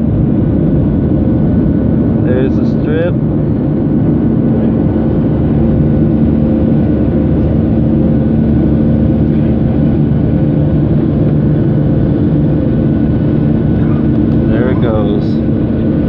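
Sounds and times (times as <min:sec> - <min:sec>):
jet engine drone and rushing air: 0:00.0 - 0:16.0.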